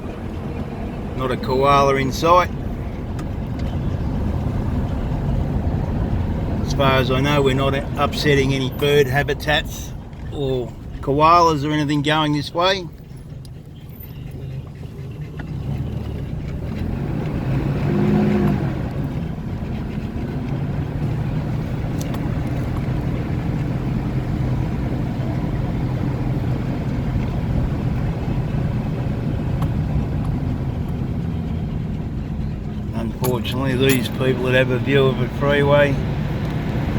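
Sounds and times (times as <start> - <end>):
car engine hum: 0.0 - 36.9
tyre road noise: 0.0 - 36.9.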